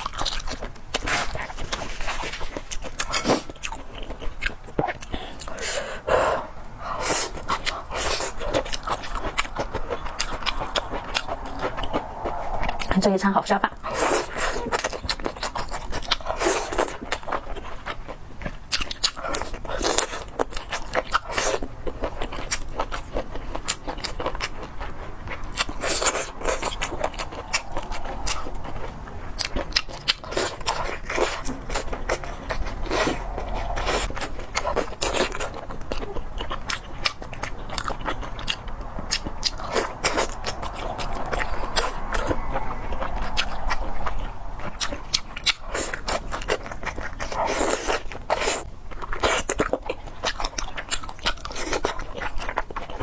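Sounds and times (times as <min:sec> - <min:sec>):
chewing and biting: 0:00.0 - 0:12.3, 0:13.9 - 0:53.0.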